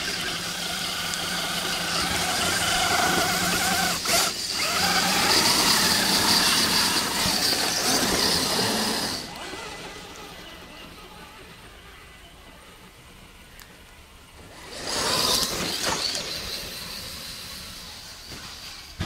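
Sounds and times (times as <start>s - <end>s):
radio-controlled cars whining: 0.0s - 19.0s.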